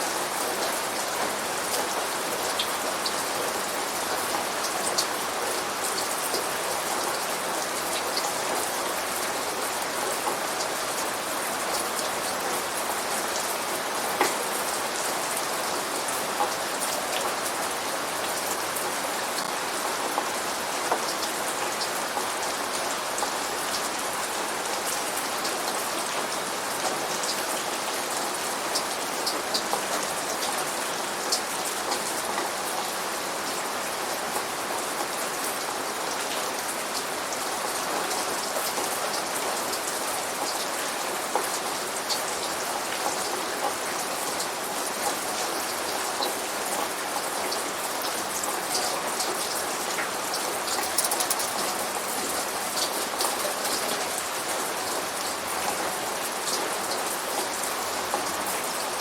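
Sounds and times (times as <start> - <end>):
rain pattering on hard surface: 0.0 - 59.0.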